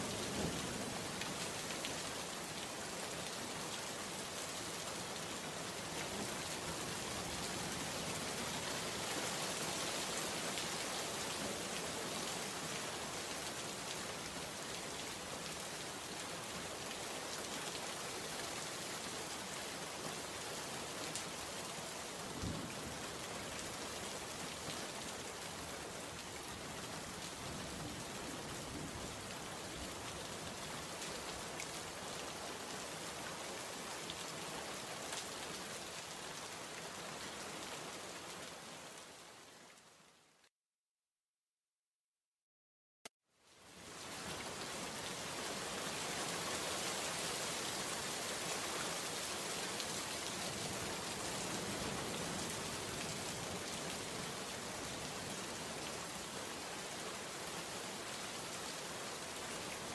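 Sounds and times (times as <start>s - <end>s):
heavy rain on leaves and road: 0.0s - 40.5s, 43.4s - 59.9s.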